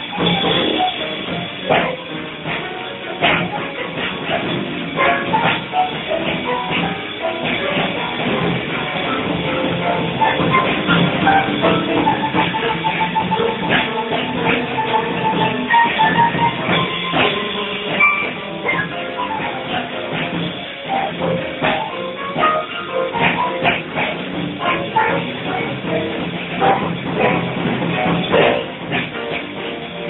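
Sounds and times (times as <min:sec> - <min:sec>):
bass: 0:00.0 - 0:30.0
drum kit: 0:00.0 - 0:30.0
piano: 0:00.0 - 0:30.0.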